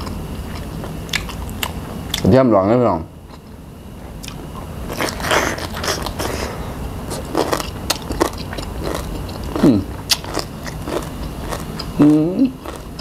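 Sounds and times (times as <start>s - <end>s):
chewing crunchy food: 0.0s - 2.3s, 4.1s - 13.0s.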